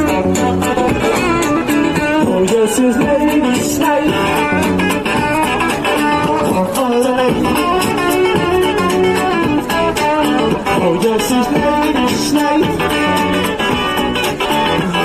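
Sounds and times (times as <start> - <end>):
amplified electric guitar song: 0.0 - 15.0.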